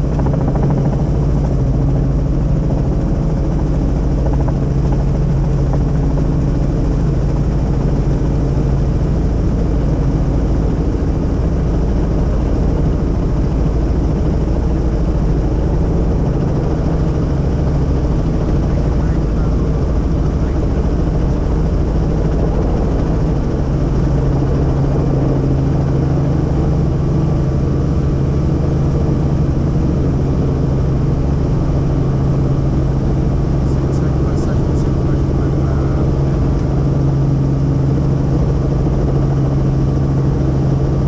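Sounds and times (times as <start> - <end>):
helicopter rotor and engine drone: 0.0 - 41.0
low hum: 0.0 - 41.0.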